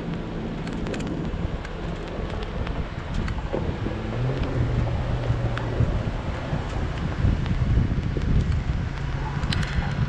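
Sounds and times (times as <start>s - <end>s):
car engine running: 0.0s - 10.0s
wind buffeting microphone: 0.0s - 10.0s.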